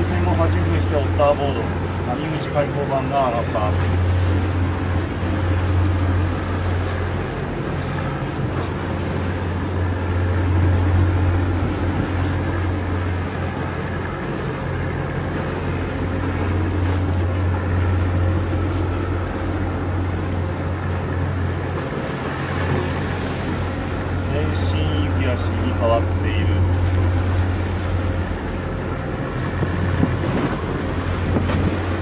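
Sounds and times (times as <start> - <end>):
boat engines droning: 0.0 - 32.0
sea wash: 0.0 - 32.0
wind: 0.0 - 32.0.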